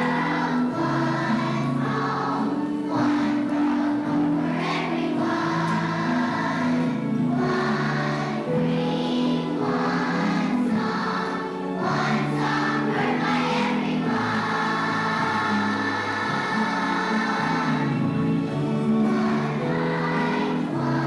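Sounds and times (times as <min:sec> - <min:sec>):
children's choir singing: 0:00.0 - 0:21.0
musical accompaniment: 0:00.0 - 0:21.0.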